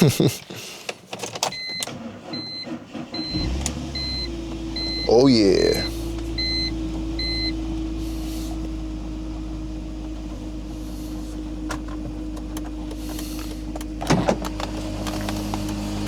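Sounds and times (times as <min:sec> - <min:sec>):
car engine idling: 0:01.8 - 0:16.0.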